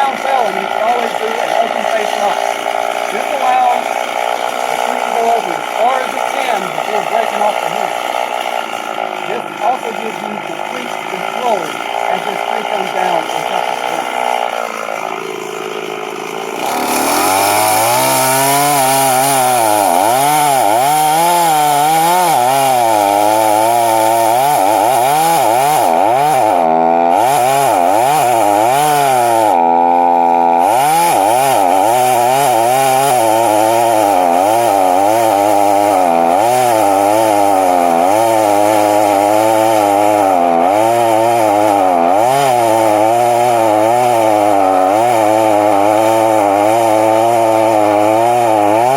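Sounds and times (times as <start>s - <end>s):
chainsaw cutting into tree: 0.0s - 48.9s.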